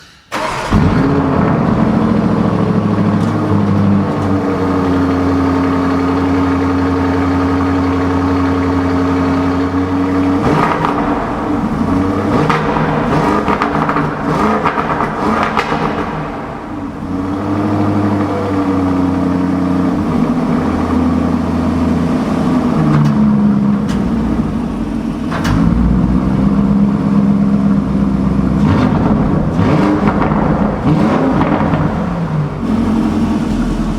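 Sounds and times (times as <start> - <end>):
car engine idling: 0.0 - 33.9
engine throttle revs: 0.3 - 33.9.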